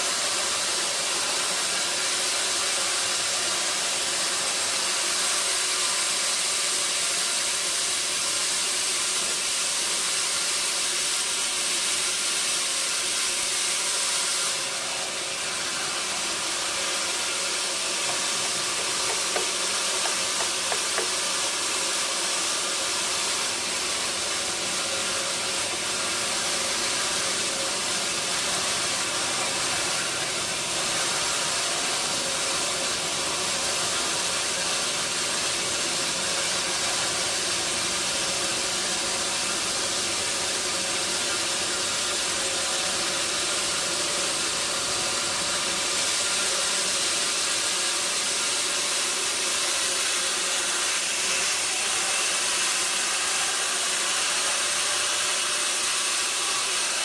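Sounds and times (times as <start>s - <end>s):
sawmill machinery whirring: 0.0s - 57.0s.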